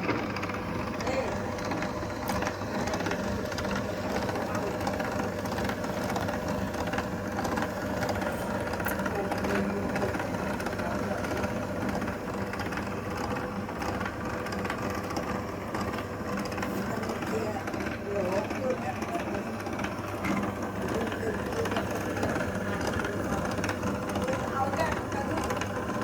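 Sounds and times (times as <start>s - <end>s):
motor-driven machine humming: 0.0s - 26.0s.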